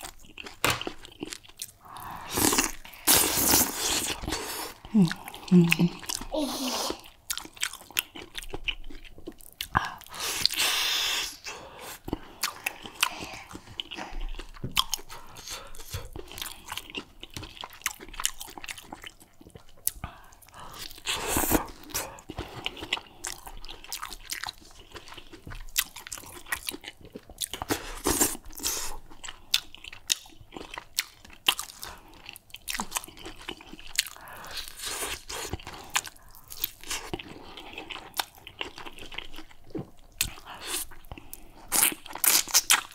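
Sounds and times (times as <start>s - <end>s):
wet chewing: 6.9s - 42.9s.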